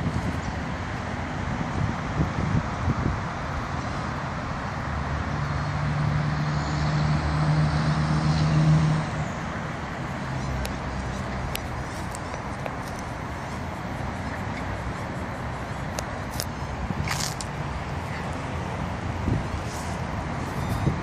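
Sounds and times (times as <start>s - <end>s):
passing cars rushing: 0.0s - 21.0s
vehicle engine hum passing: 0.0s - 21.0s.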